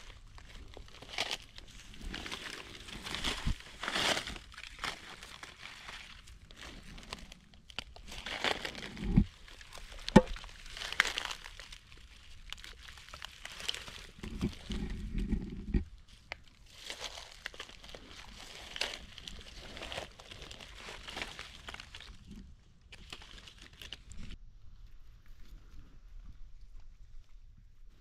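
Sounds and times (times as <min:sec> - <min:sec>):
dry leaves rustling and crunching: 0:00.0 - 0:15.2, 0:16.0 - 0:24.4.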